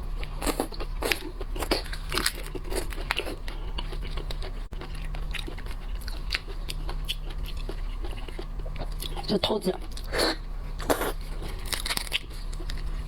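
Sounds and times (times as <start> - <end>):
crunchy shellfish eating: 0.0 - 13.0.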